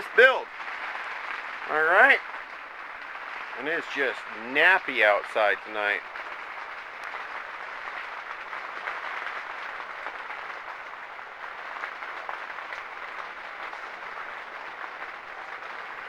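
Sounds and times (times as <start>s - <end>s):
rain hissing: 0.0s - 16.0s
raindrops ticking: 0.0s - 16.0s.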